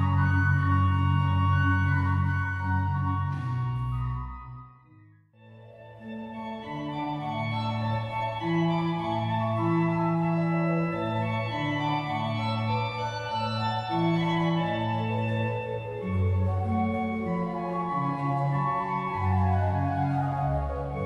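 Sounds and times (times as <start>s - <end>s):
pipe organ playing chords: 0.0s - 21.0s.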